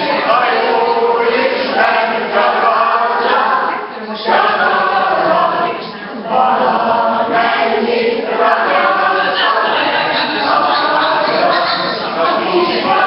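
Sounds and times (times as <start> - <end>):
women singing together: 0.0 - 13.0.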